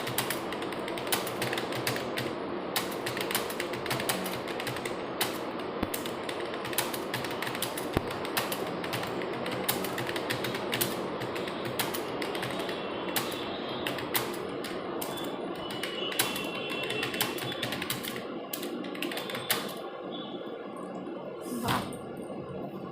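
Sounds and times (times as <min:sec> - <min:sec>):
fast typing on computer keyboard: 0:00.0 - 0:19.9.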